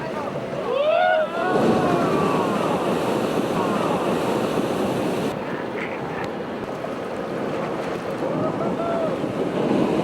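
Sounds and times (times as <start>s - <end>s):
ocean surf rushing: 0.0s - 10.0s
wind buffeting microphone: 0.1s - 10.0s.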